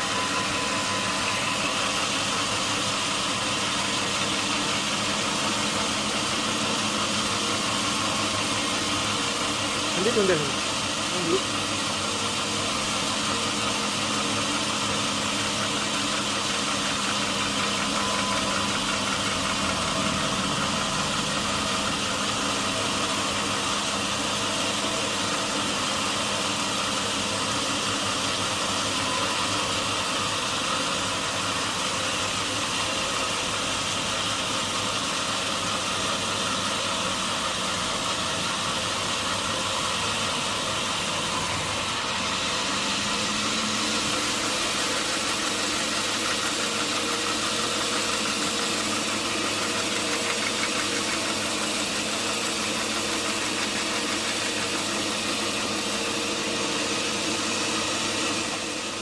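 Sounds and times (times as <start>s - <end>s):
noisy whirr: 0.0s - 34.4s, 37.5s - 59.0s
sawmill engine humming: 0.0s - 59.0s.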